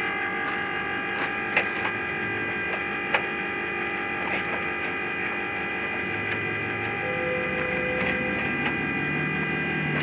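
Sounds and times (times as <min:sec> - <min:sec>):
steady mechanical hum: 0:00.0 - 0:10.0.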